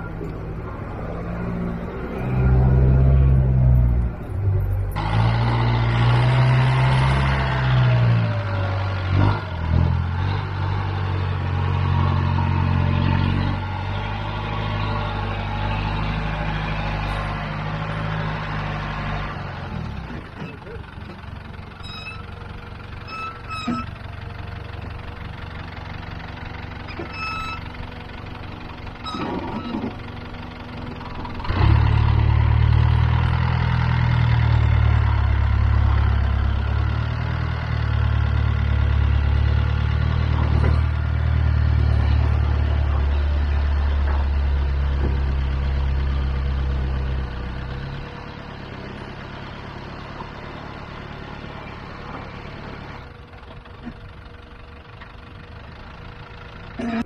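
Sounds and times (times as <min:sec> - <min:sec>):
truck engine idling and pulling: 0:00.0 - 0:57.0.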